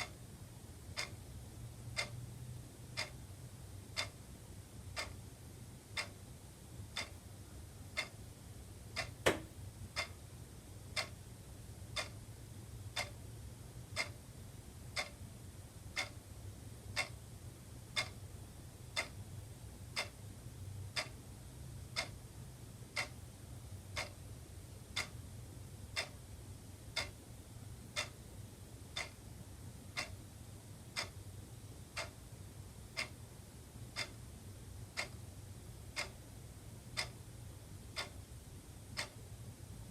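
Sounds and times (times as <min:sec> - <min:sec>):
wall clock ticking: 0:00.0 - 0:07.3, 0:07.9 - 0:08.3, 0:08.9 - 0:15.3, 0:15.9 - 0:17.3, 0:17.9 - 0:20.2, 0:20.8 - 0:26.3, 0:26.9 - 0:28.3, 0:28.9 - 0:39.5
faint low hum: 0:00.0 - 0:39.9.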